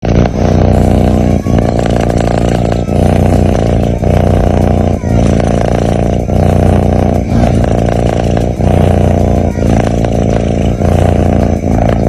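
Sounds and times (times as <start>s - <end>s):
cat snoring loudly: 0.0s - 12.0s.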